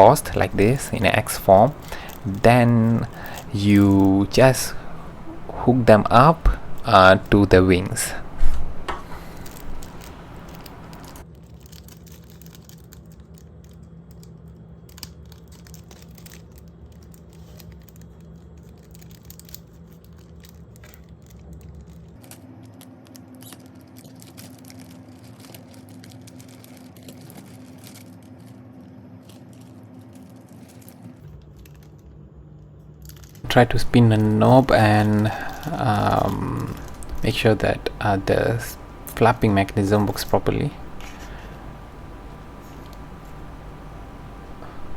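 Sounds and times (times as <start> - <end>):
low steady hum: 0.0 - 12.5, 16.2 - 44.9
plastic parts clicking and crinkling: 0.0 - 44.9.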